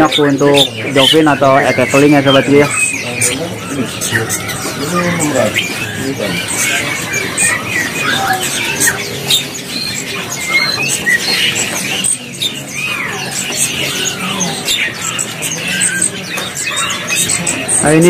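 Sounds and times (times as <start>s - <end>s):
songbirds chirping and whistling: 0.0s - 18.0s.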